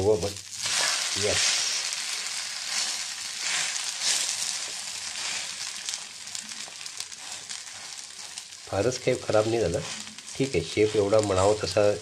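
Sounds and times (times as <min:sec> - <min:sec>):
oil sizzling: 0:00.0 - 0:12.0
small crackles: 0:00.0 - 0:12.0.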